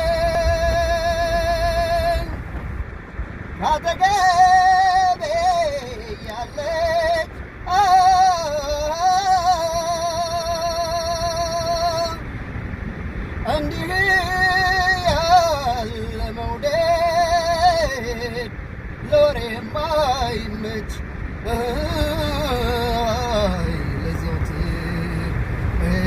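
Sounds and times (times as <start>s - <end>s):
person singing with heavy vibrato: 0.0s - 2.5s, 3.6s - 12.3s, 13.4s - 26.0s.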